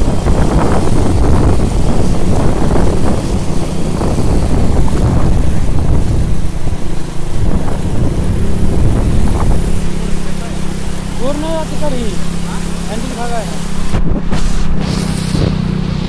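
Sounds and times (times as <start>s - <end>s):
wind on microphone: 0.0s - 12.5s, 13.5s - 16.0s
motorbike engine running: 0.0s - 16.0s
water churning and splashing: 0.0s - 16.0s.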